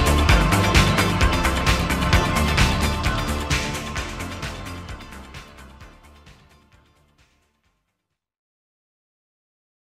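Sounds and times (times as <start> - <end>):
music: 0.0 - 8.3.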